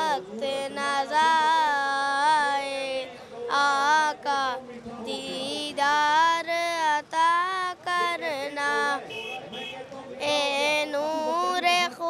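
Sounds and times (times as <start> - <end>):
boy singing: 0.0 - 9.1, 10.2 - 12.0.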